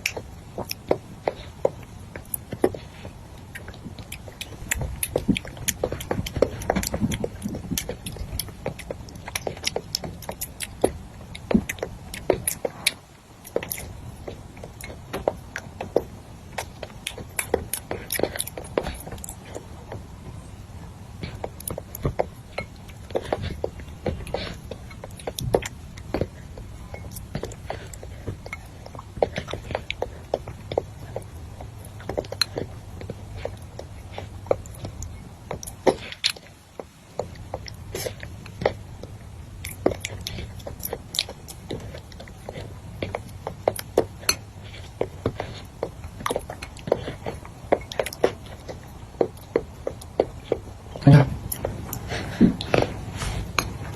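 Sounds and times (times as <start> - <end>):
wet chewing and lip-smacking: 0.0 - 53.9.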